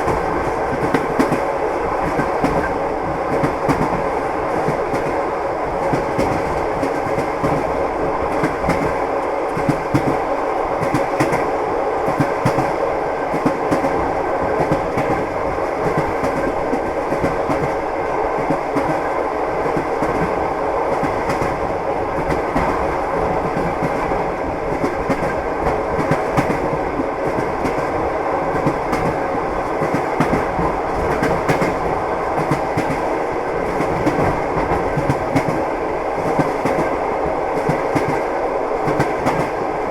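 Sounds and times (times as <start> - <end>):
train wheels clattering on rails: 0.0 - 39.7.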